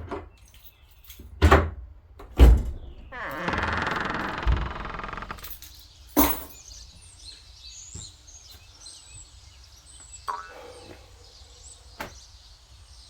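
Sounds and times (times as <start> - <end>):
small birds chirping: 0.2 - 1.3, 2.5 - 13.0.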